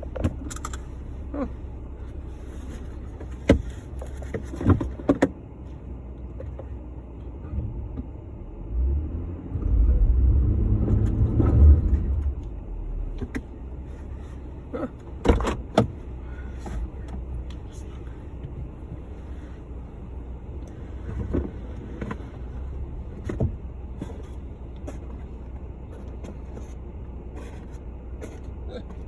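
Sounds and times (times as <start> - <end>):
low vehicle rumble: 0.0 - 29.0.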